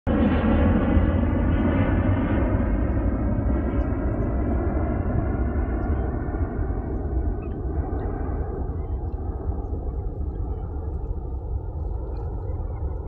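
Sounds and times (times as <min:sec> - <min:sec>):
engine drone: 0:00.1 - 0:13.0
low rumble: 0:00.1 - 0:13.0.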